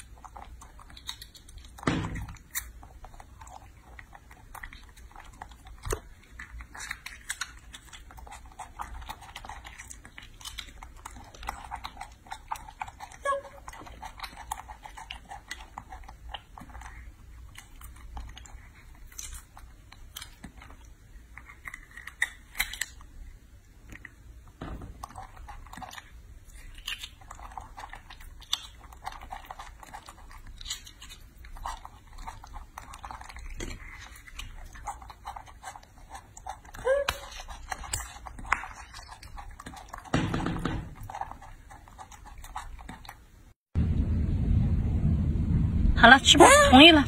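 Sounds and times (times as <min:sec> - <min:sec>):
fruit shells cracking: 0:00.0 - 0:43.3.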